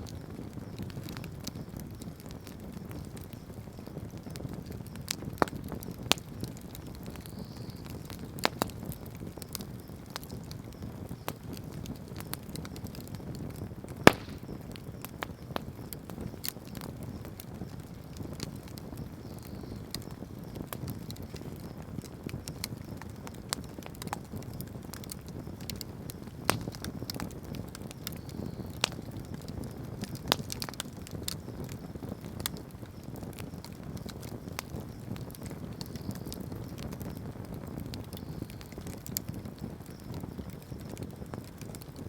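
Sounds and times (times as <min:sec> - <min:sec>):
fire pops and snaps: 0:00.0 - 0:42.0
wood bonfire crackling: 0:00.0 - 0:42.0.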